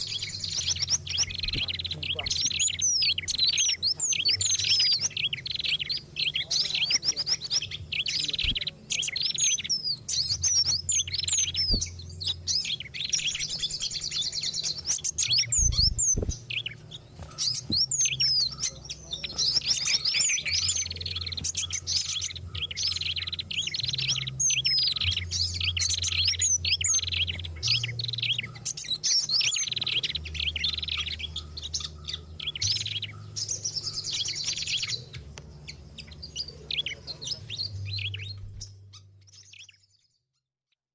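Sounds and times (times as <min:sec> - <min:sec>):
low steady hum: 0:00.0 - 0:39.5
songbirds chirping and whistling: 0:00.0 - 0:40.4.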